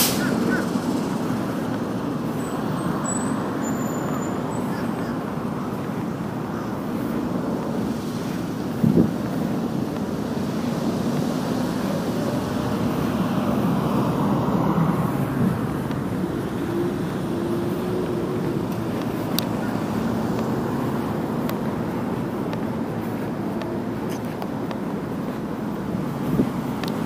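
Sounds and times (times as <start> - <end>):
faint traffic engine hum: 0.0 - 27.0
road and wind noise: 0.0 - 27.0.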